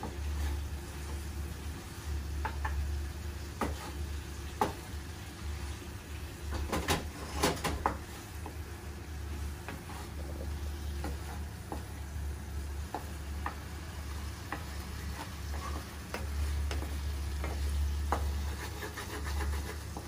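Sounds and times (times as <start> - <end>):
wooden spatula scraping a pan: 0.0 - 2.8, 3.4 - 5.8, 6.6 - 12.1, 12.8 - 20.0
tomato pieces sizzling in a pan: 0.0 - 20.0.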